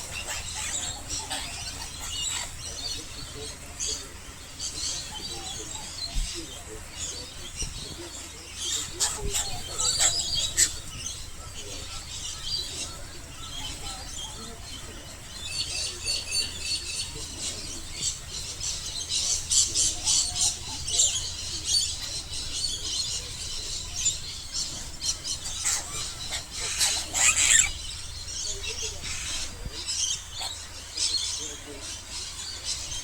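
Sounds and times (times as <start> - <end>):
birds chattering: 0.0 - 33.0.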